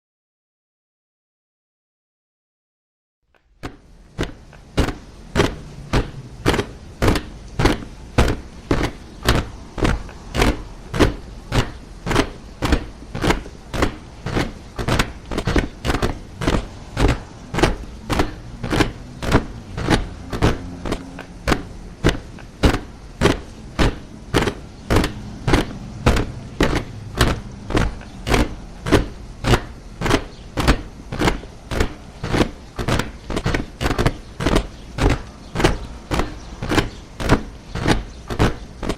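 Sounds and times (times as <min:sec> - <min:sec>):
soldiers marching in step: 0:03.6 - 0:38.9.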